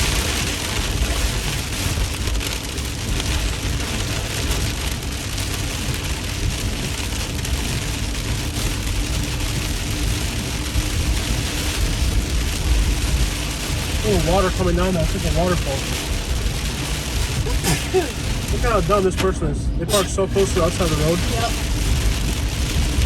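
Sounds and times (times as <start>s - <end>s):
heavy rain on a car: 0.0s - 23.0s
road noise: 0.0s - 23.0s.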